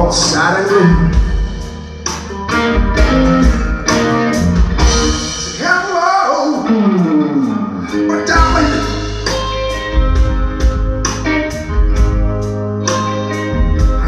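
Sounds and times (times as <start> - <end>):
bass guitar: 0.0 - 14.0
drum kit: 0.0 - 14.0
electric guitar: 0.0 - 14.0.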